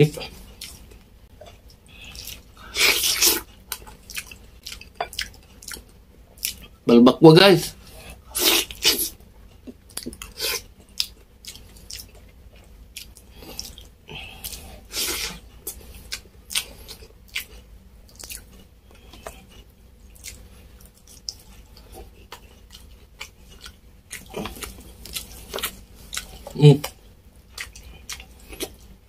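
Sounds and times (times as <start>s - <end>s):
wet chewing and mouth smacks: 0.5s - 6.7s, 8.5s - 29.0s.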